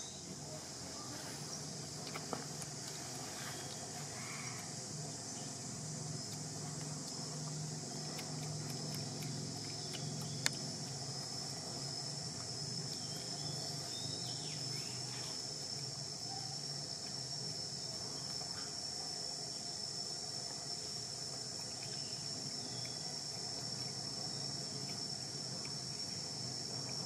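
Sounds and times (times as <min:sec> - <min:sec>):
insects chirring: 0:00.0 - 0:27.0
outdoor background noise: 0:00.0 - 0:27.0.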